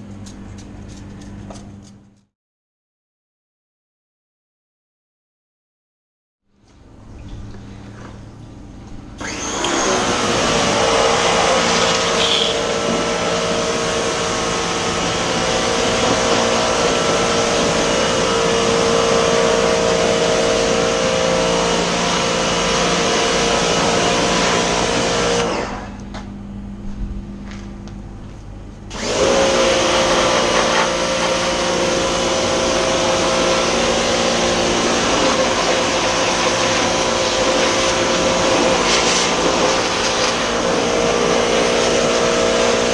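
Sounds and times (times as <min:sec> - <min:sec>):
pressure washer motor hum: 0:06.7 - 0:26.4, 0:27.4 - 0:42.9.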